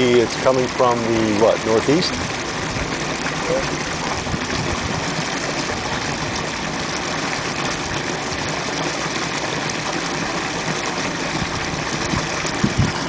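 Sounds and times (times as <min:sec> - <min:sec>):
water gushing into canal: 0:00.0 - 0:13.0.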